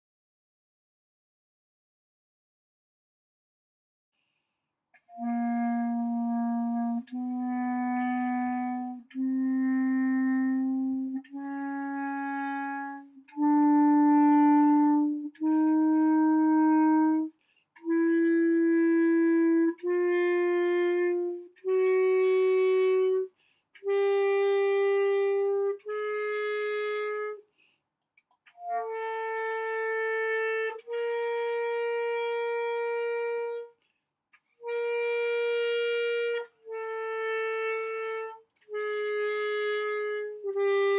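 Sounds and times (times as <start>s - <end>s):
clarinet playing a scale: 5.0s - 27.4s, 28.5s - 33.8s, 34.6s - 40.9s.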